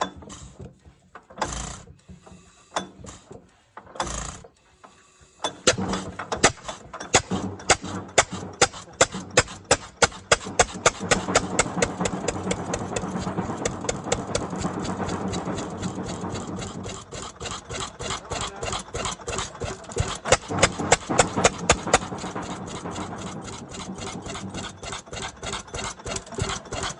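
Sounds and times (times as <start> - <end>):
engine starting and running: 0.0 - 26.9.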